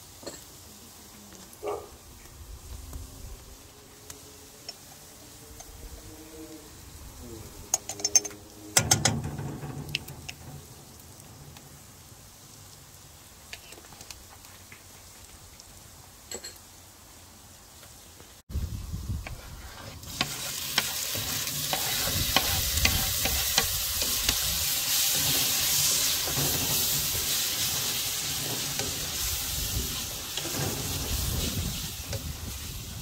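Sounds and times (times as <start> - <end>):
onions frying in a pan: 0.0 - 33.0.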